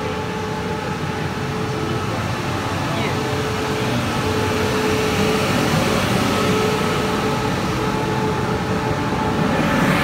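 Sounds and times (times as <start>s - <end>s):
train running noise: 0.0s - 10.0s.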